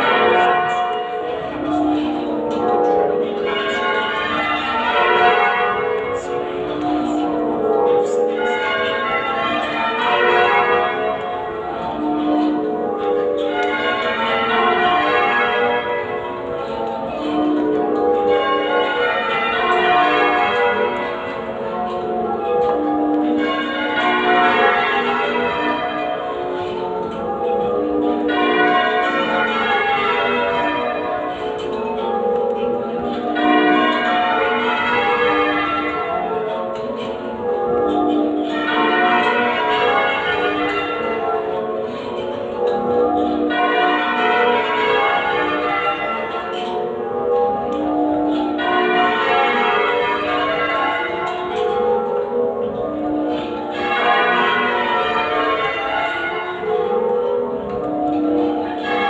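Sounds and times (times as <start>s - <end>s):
muffled church bells ringing: 0.0s - 59.0s.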